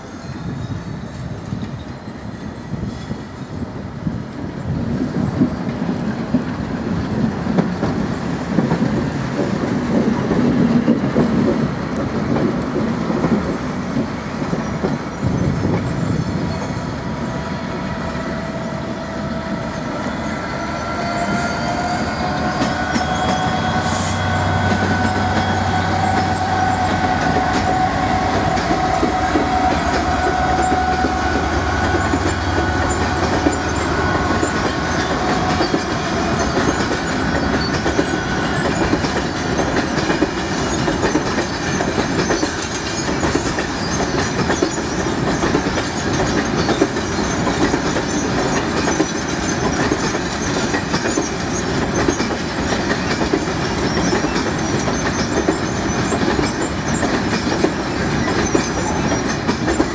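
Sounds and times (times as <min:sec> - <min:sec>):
wheels rumbling and rattling on track: 0:00.0 - 0:59.9
diesel locomotive engine running: 0:08.1 - 0:59.9.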